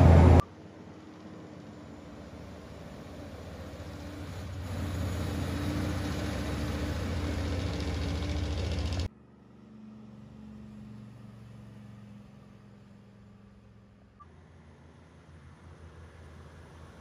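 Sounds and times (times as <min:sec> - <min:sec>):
diesel truck driving past: 0:00.0 - 0:17.0
distant truck engine: 0:00.0 - 0:17.0.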